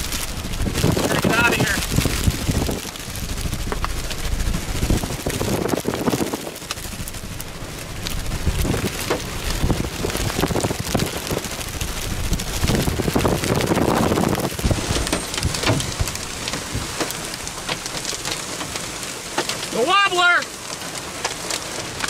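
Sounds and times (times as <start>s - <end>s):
gusting wind rumble: 0.0s - 19.7s
heavy rain beating down: 0.0s - 22.0s.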